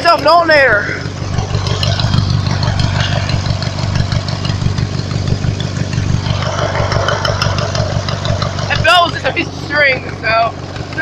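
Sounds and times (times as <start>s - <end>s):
lawnmower engine idling: 0.0s - 11.0s.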